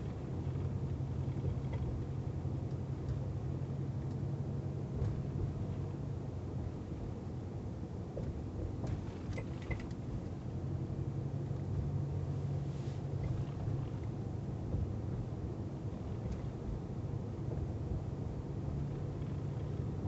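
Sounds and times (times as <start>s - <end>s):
truck engine low rumble: 0.0s - 20.0s.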